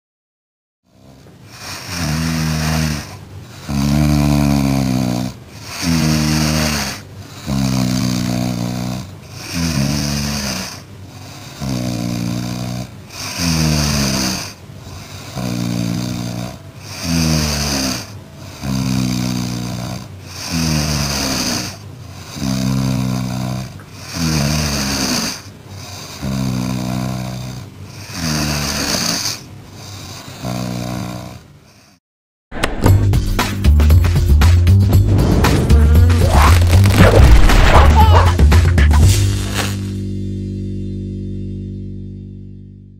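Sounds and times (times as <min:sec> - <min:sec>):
cat snoring loudly: 0:00.9 - 0:32.0, 0:34.9 - 0:38.4, 0:39.1 - 0:40.0.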